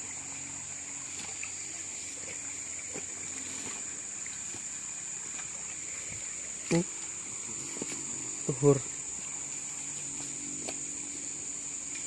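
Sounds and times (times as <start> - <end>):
high-pitched insect drone: 0.0 - 12.0
river water flowing: 0.0 - 12.0.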